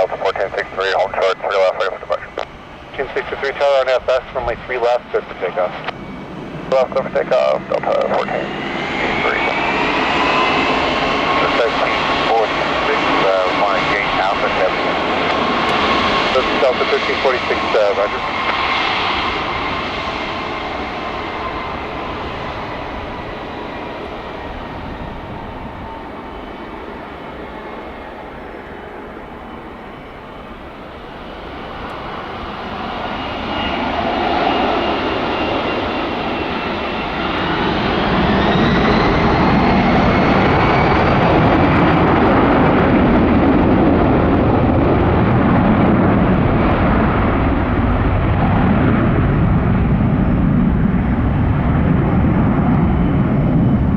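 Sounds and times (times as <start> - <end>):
jet engines whining and roaring: 0.0 - 53.9.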